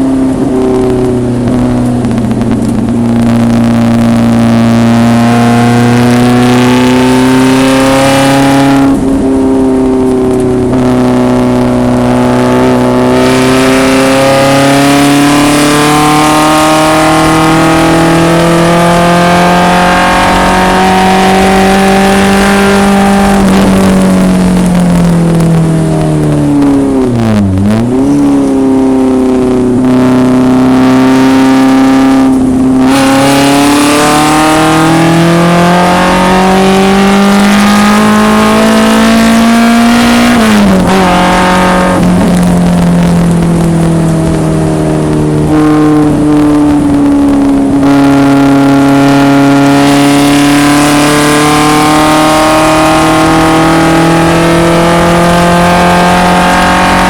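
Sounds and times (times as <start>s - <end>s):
racecar engine revving: 0.0s - 57.0s.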